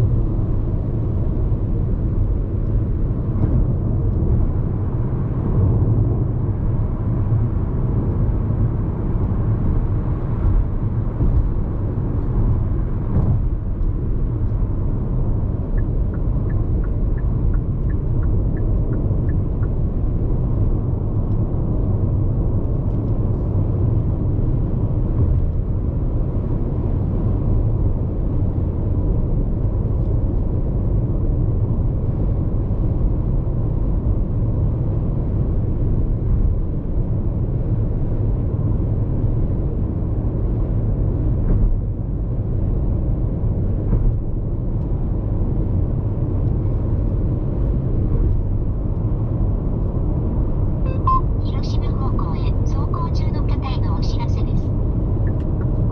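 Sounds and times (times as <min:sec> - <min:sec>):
tyre road noise inside car: 0:00.0 - 0:55.9.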